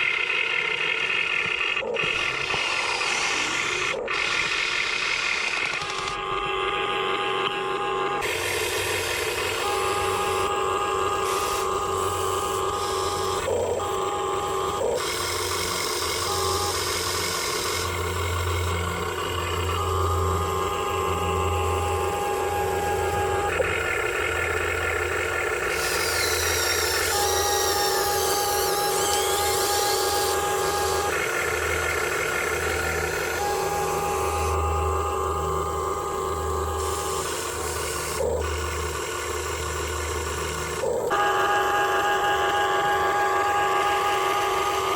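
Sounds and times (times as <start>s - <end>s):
toy excavator motors whirring: 0.0s - 44.9s.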